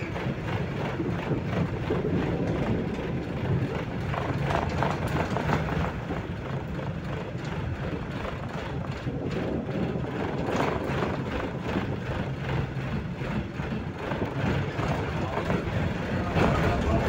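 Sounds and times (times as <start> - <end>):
tram motors and wheels rumbling: 0.0 - 17.0.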